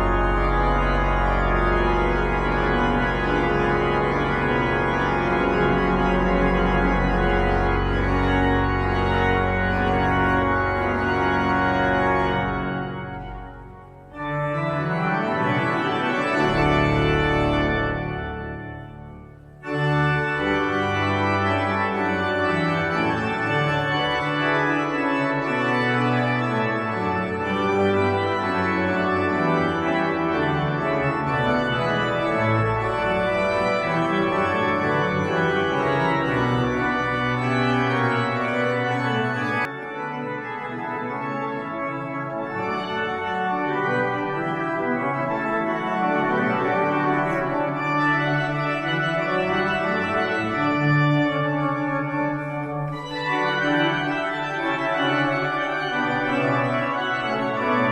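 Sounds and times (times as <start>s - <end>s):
deep organ pedal notes: 0.0s - 57.9s
pipe organ chords: 0.0s - 57.9s.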